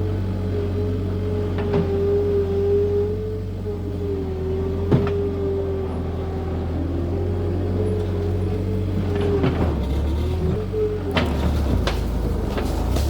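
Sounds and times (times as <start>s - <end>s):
skid steer engine drone: 0.0s - 13.0s.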